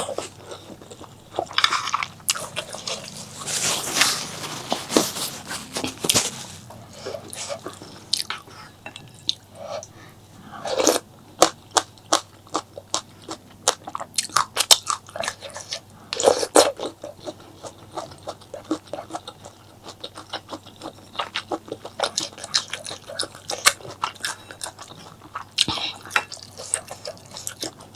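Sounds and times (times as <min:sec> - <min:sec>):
crunchy food chewing: 0:00.0 - 0:27.9.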